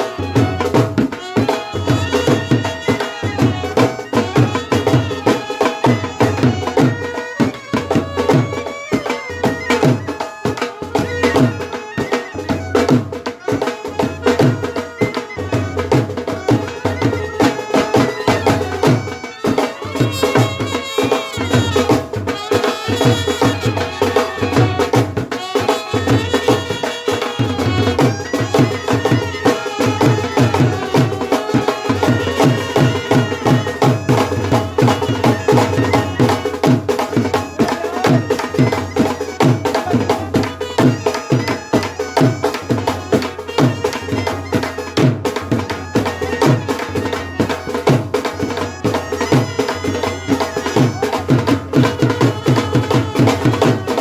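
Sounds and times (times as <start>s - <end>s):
steady drum beat: 0.0s - 54.0s
wind instruments melody: 0.0s - 54.0s.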